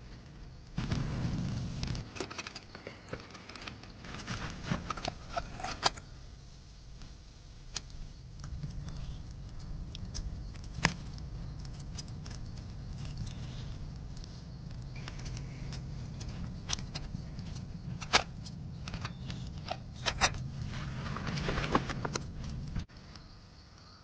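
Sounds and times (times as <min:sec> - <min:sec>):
faint low background hum: 0:00.0 - 0:24.0.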